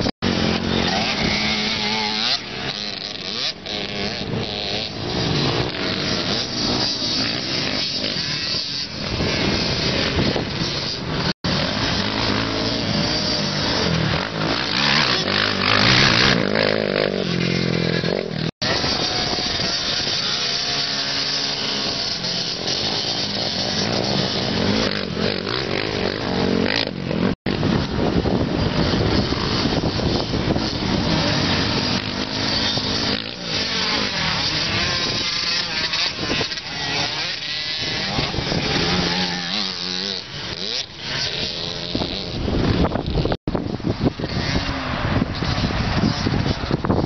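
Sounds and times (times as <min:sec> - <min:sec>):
atv and dirt bike engines revving: 0:00.0 - 0:47.0.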